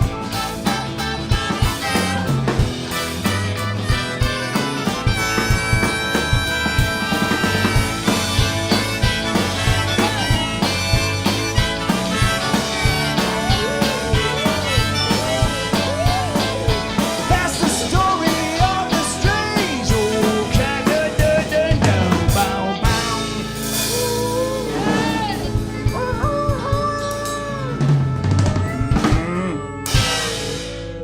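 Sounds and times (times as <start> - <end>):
drum kit playing: 0.0 - 31.0
live band music: 0.0 - 31.0
long bending melodic notes: 0.0 - 31.0.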